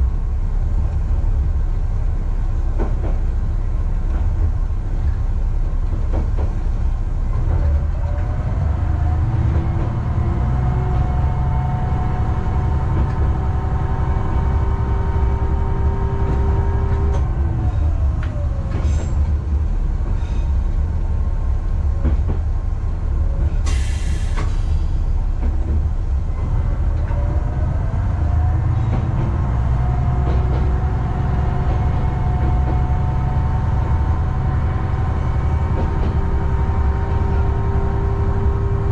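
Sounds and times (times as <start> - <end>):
diesel railcar engine rumble: 0.0 - 38.9.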